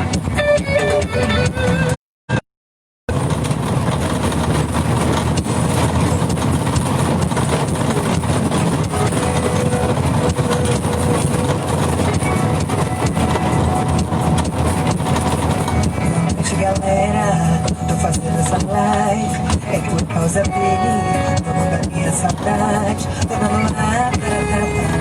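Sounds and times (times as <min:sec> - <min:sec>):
vehicle driving along street: 0:00.0 - 0:02.0, 0:03.1 - 0:25.0.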